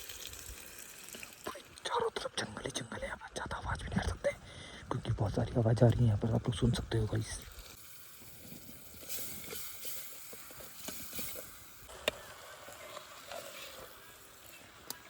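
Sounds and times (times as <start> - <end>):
night forest hiss: 0.0 - 15.0.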